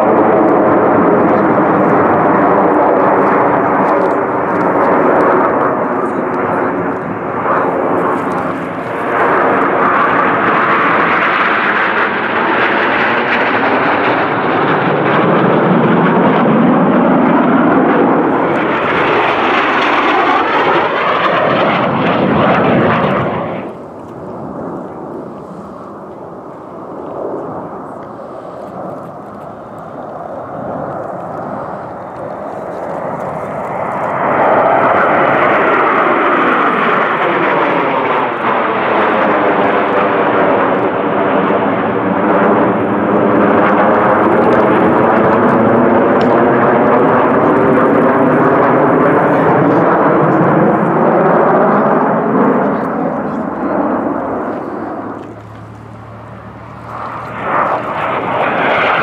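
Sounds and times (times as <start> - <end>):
jets passing overhead: 0.0 - 59.0.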